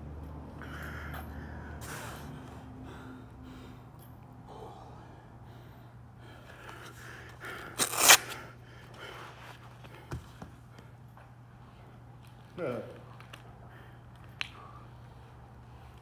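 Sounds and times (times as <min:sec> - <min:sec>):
man breathing hard: 0:00.4 - 0:12.1, 0:13.5 - 0:16.0.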